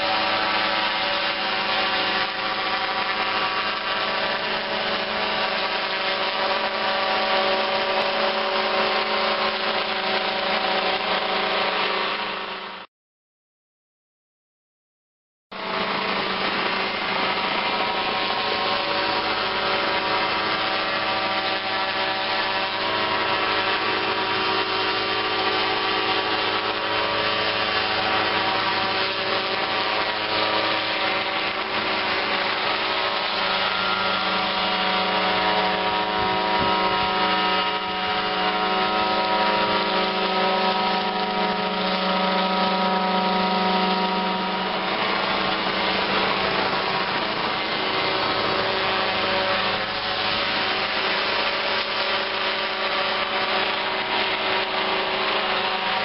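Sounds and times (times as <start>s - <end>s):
small helicopter buzzing drone: 0.0s - 12.9s, 15.6s - 56.0s.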